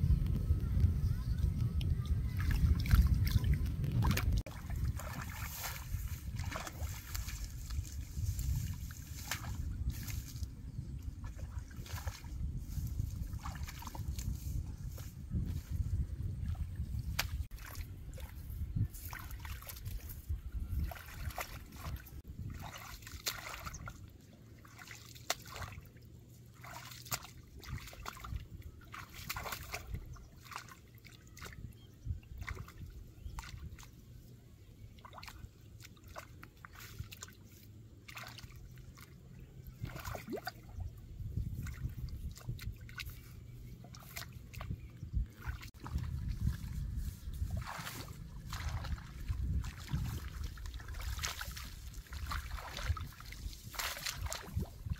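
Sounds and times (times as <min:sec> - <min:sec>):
hands sloshing in muddy water: 0:02.0 - 0:54.9.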